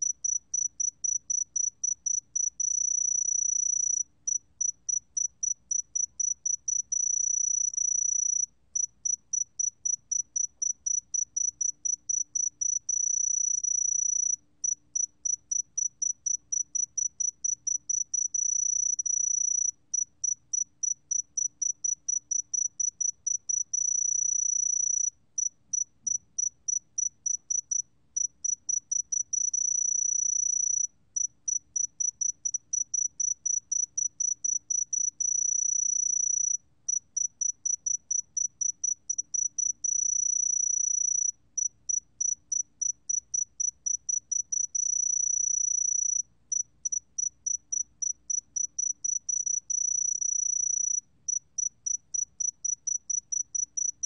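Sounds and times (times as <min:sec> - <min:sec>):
cricket trilling: 0:00.0 - 0:54.0.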